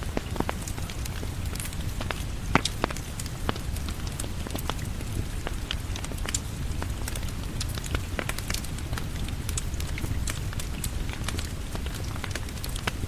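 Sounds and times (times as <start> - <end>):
rain falling: 0.0 - 13.0
wood fire crackling: 0.0 - 13.0.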